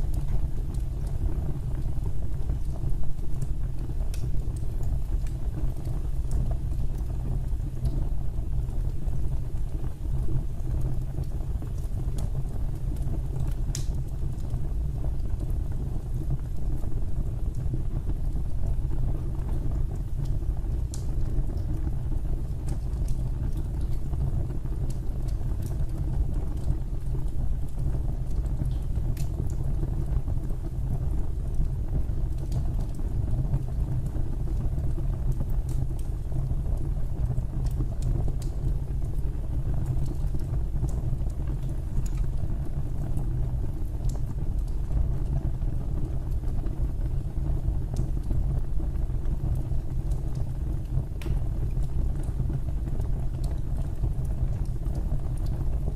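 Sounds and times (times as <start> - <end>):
fire burning in a fireplace: 0.0 - 55.9
fire crackles and pops: 0.0 - 55.9.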